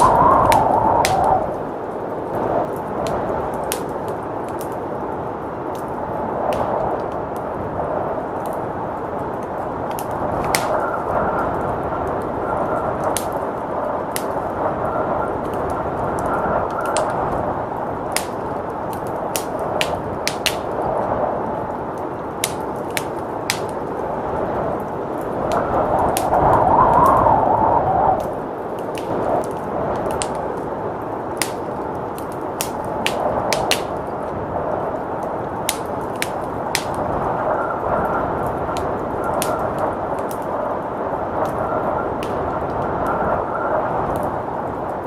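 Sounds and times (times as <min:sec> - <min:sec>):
blizzard wind rushing: 0:00.0 - 0:45.0
wood fire crackling: 0:00.0 - 0:45.0.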